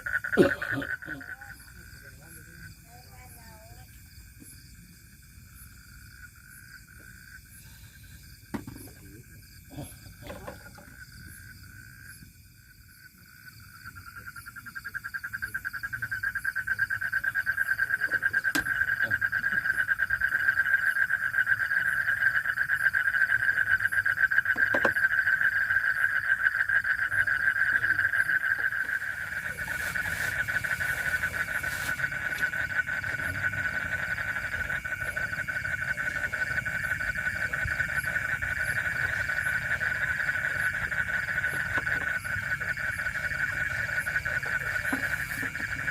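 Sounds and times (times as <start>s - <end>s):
animals trilling at night: 0.0s - 45.9s.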